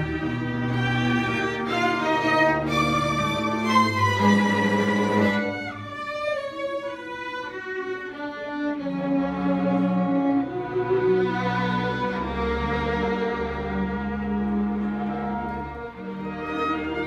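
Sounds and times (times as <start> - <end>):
string ensemble playing slowly: 0.0 - 17.0.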